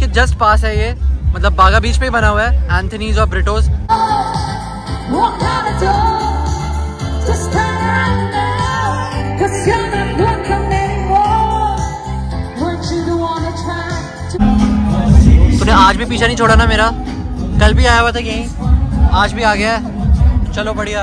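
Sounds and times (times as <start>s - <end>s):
steady bass: 0.0s - 21.0s.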